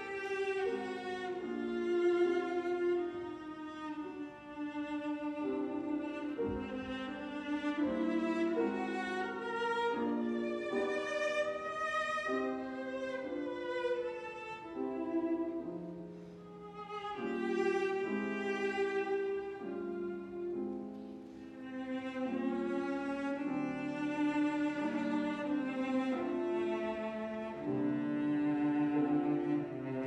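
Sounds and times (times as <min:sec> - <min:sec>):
piano trio chamber music: 0:00.0 - 0:30.0.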